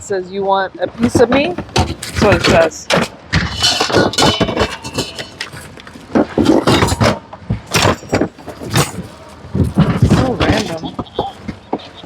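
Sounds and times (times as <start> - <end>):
hard objects clattering in a bin: 1.1 - 12.0.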